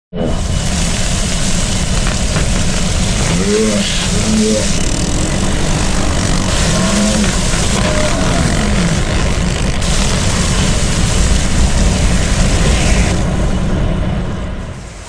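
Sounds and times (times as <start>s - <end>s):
propeller plane engine: 0.2s - 15.0s
wind rushing: 0.2s - 15.0s.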